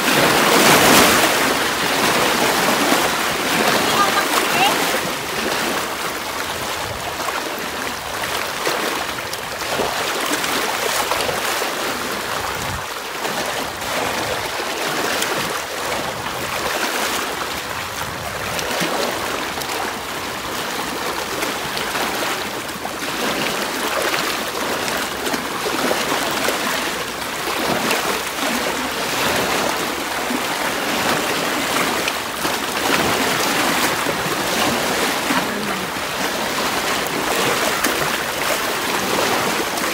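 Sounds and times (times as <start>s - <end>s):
waves washing over rocky shore: 0.0s - 39.9s.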